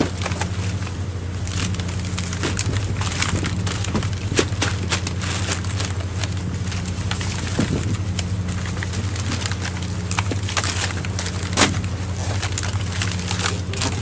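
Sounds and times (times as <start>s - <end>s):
boat machinery drone: 0.0s - 14.0s.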